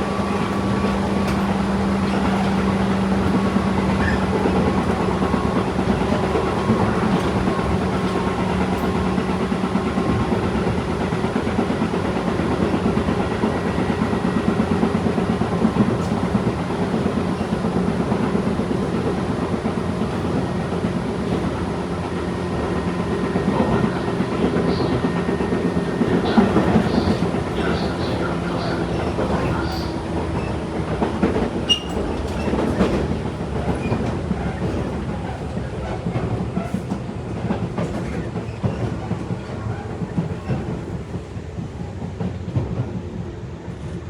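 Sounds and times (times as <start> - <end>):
rail-joint clatter: 0.0 - 43.0
train wheels rumbling on rail: 0.0 - 44.0.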